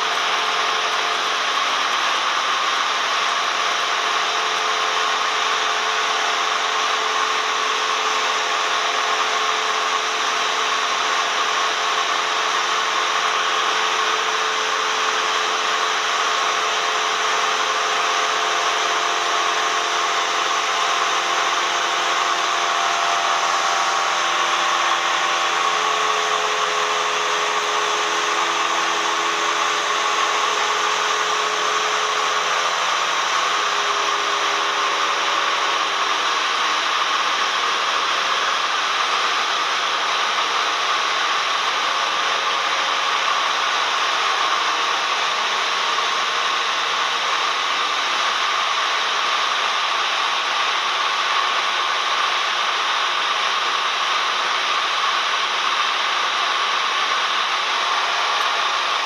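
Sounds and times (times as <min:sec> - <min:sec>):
aircraft engine and propeller drone: 0:00.0 - 0:59.0.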